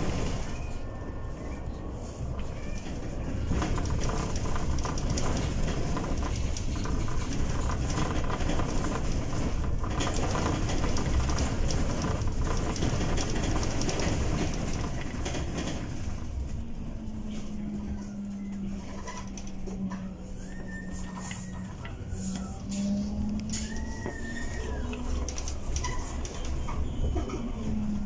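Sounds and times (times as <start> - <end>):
road and tyre rumble: 0.0 - 28.0.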